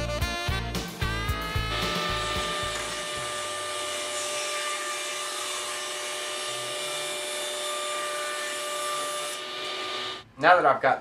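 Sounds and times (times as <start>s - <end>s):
table saw cutting wood: 1.4s - 10.3s.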